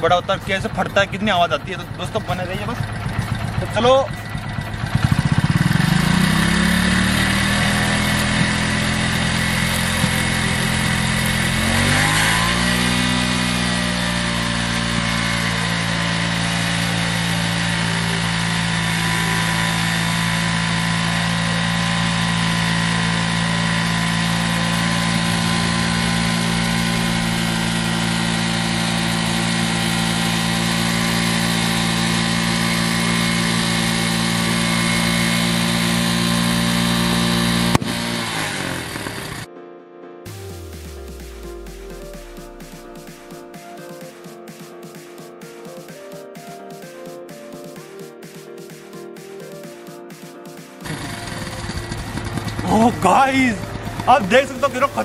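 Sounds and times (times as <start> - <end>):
motorcycle engine revving: 0.0 - 39.5, 40.3 - 44.0, 50.8 - 55.0.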